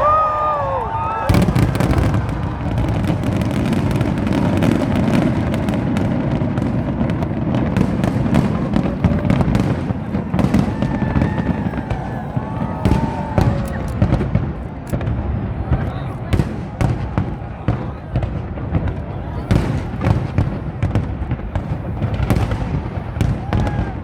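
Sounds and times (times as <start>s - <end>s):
fireworks booms and crackling: 0.0s - 24.0s.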